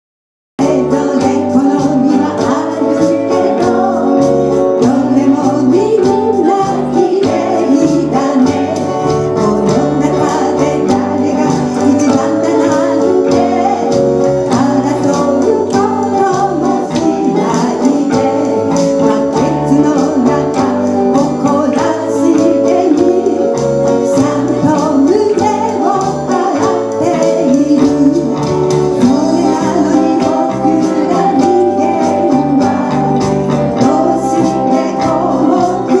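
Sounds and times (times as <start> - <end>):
live band playing: 0.6 - 36.0
woman singing: 0.6 - 36.0.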